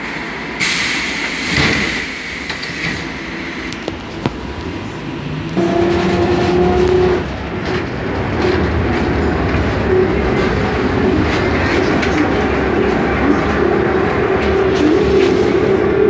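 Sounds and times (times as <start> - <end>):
bus body rumbling and rattling: 0.0 - 16.0.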